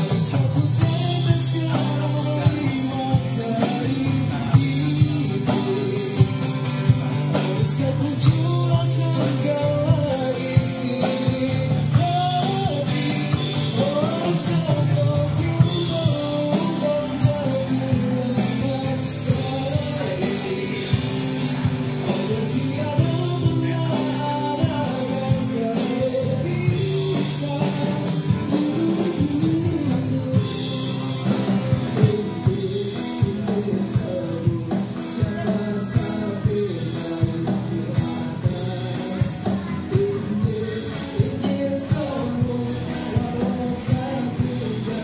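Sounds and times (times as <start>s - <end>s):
acoustic guitars strummed: 0.0s - 45.0s
man singing into microphone: 0.0s - 45.0s.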